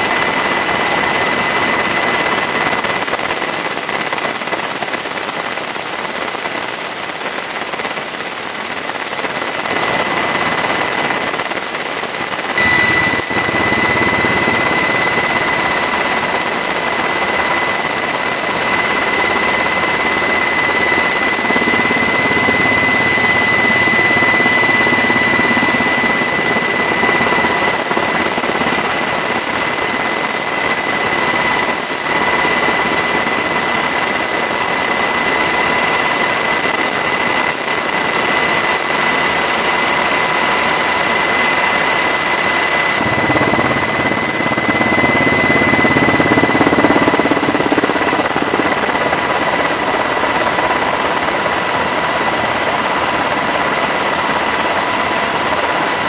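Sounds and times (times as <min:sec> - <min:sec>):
helicopter engine and rotor noise: 0:00.0 - 0:56.0
high turbine whine: 0:00.0 - 0:56.0.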